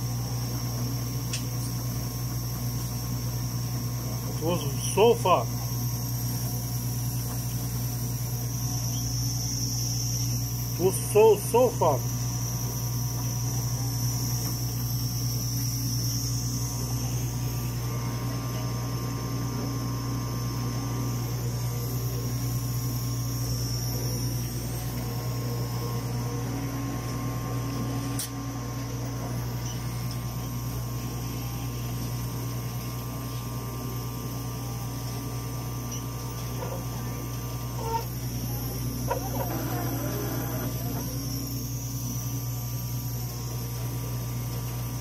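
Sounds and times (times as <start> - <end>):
machine fans humming: 0.0 - 45.0.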